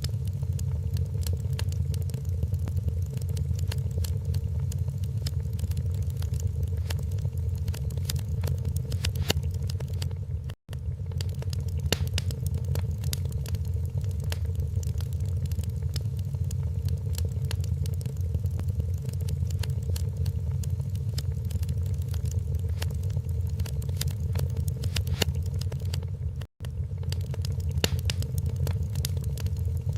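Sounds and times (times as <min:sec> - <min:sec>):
low rumble: 0:00.0 - 0:29.9
wood fire crackling and popping: 0:00.0 - 0:29.9.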